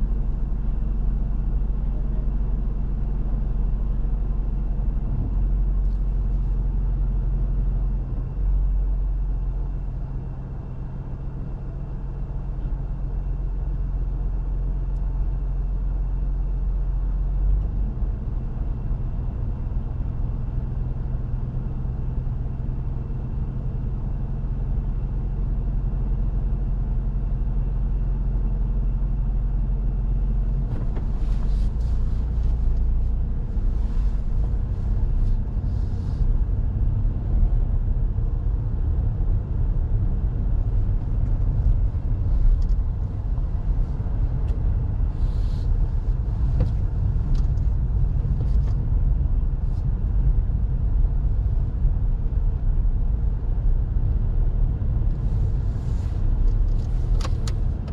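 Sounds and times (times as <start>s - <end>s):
car engine and road rumble: 0.0s - 57.9s.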